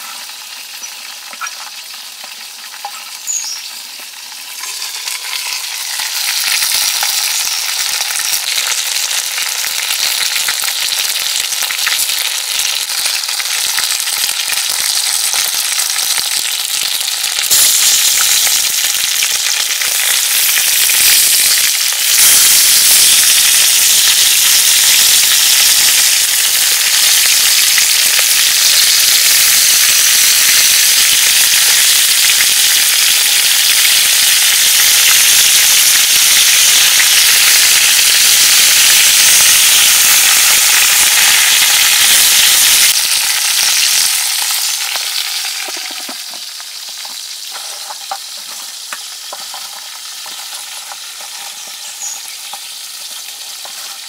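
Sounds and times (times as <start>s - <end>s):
food sizzling in hot fat: 0.0s - 54.0s.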